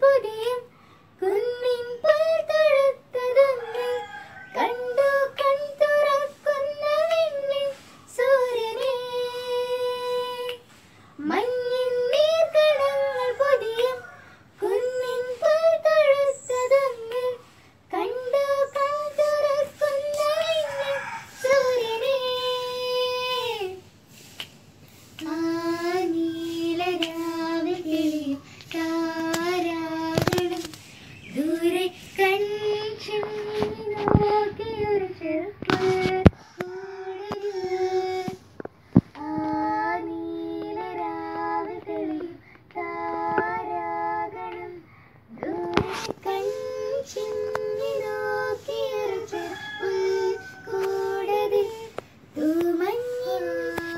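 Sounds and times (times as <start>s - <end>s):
girls singing unaccompanied: 0.0s - 53.9s.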